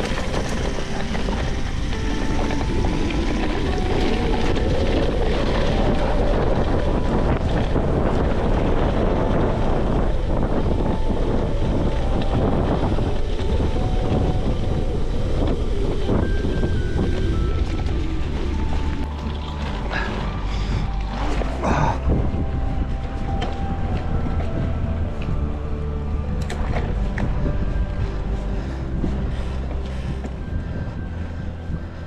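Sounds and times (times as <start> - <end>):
bike tyres rolling over wet grass: 0.0 - 32.0
wind buffeting microphone: 0.0 - 32.0.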